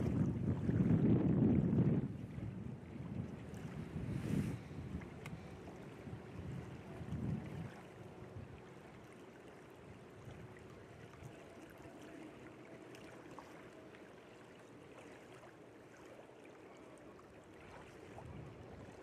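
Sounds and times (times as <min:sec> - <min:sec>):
water lapping at shore: 0:00.0 - 0:19.0.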